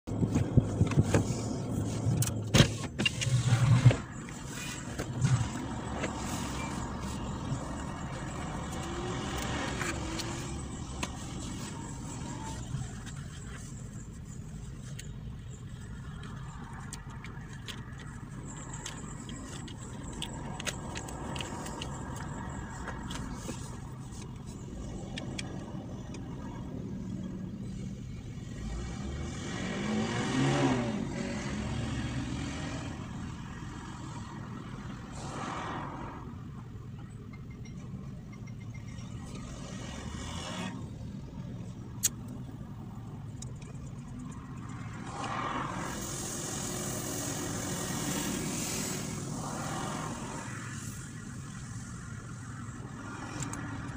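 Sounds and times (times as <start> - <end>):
steady low car interior noise: 0.0 - 53.9.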